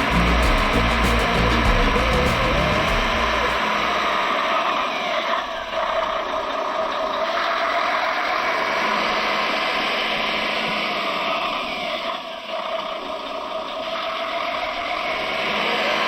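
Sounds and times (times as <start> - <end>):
gears whining and clattering: 0.0 - 15.8.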